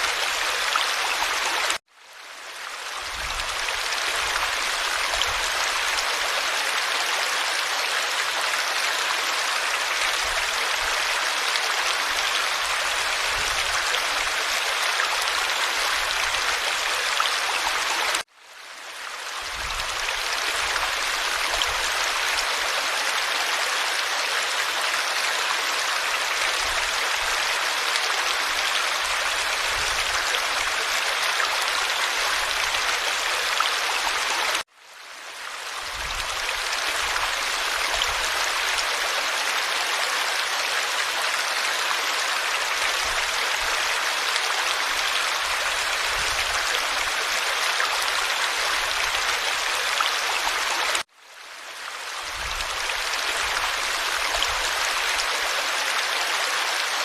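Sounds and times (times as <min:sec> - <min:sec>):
stream water babbling: 0:00.0 - 0:57.0.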